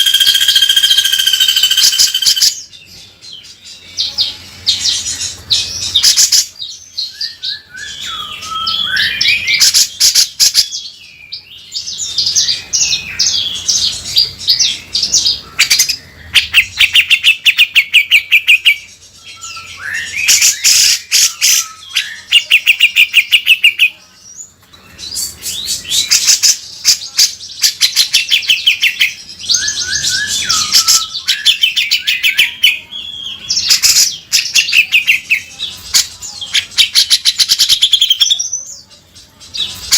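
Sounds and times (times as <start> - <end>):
bird singing harsh trills: 0.0 - 39.9.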